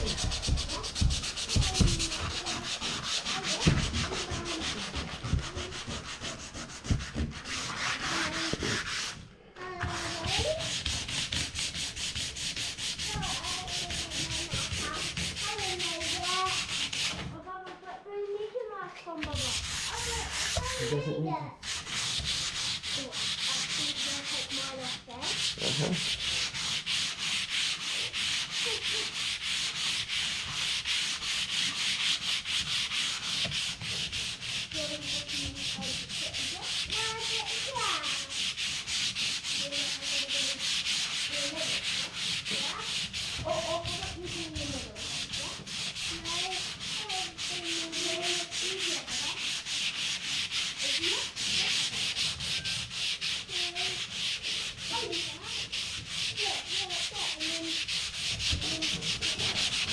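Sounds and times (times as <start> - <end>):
sandpaper rasping on wood: 0.0 - 17.3, 19.2 - 59.9.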